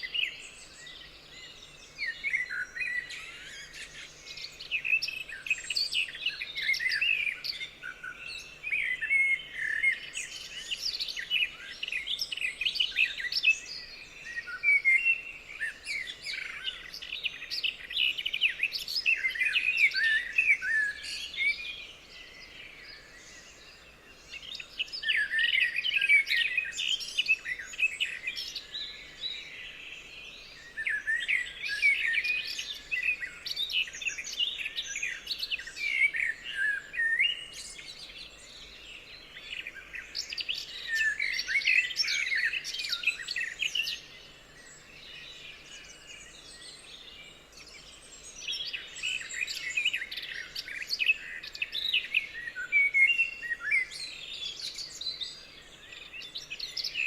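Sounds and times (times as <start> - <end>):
songbirds chirping chorus: 0.0 - 57.0.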